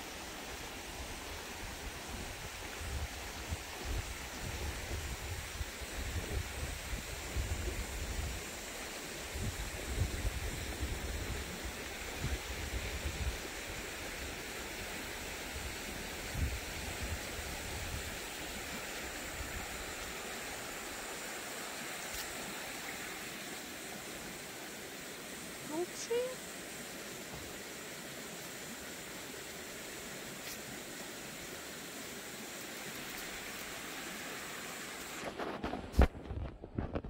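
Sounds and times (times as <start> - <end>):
steady rushing hiss: 0.0 - 36.4.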